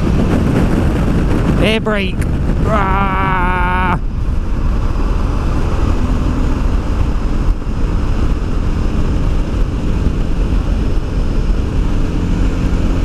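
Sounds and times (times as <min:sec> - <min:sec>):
motorcycle engine droning: 0:00.0 - 0:13.0
wind rush on microphone: 0:00.0 - 0:13.0.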